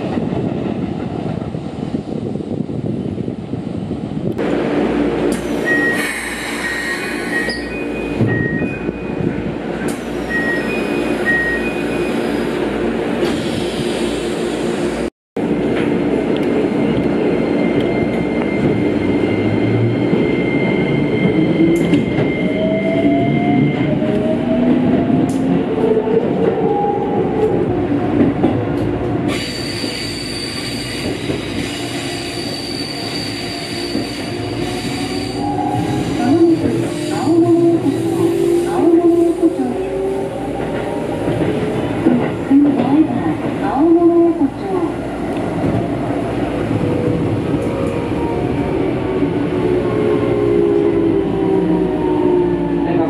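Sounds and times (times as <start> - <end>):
train wheels on rail: 0.0 - 52.7.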